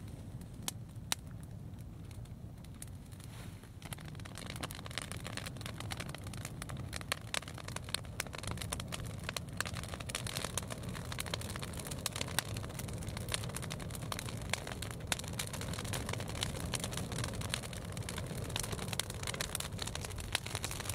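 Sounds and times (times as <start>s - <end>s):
fire crackling and popping: 0.0s - 20.9s
steady low rumble: 0.0s - 20.9s.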